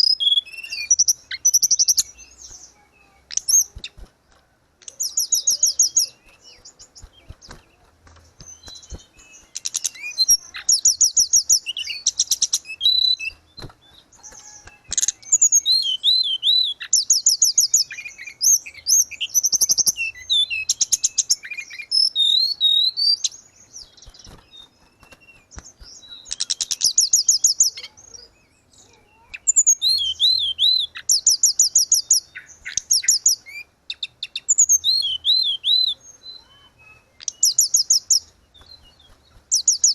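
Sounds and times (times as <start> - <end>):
bird singing trills and whistles: 0.0 - 4.1, 4.8 - 39.9.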